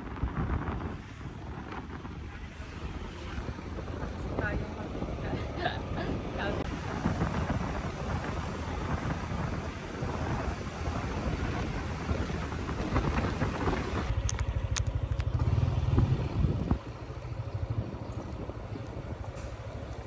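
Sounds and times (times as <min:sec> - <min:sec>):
outdoor noise: 0:00.0 - 0:20.0
vehicle engine running: 0:00.0 - 0:20.0.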